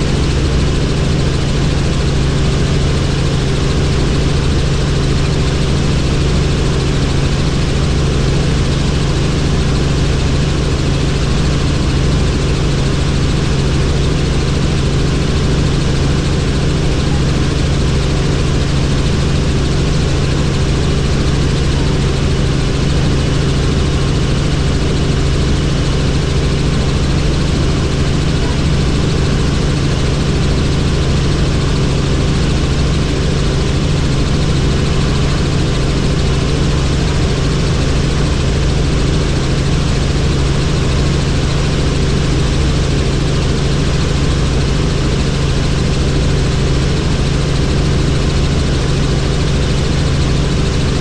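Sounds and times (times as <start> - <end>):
helicopter engine and rotor drone: 0.0 - 51.0.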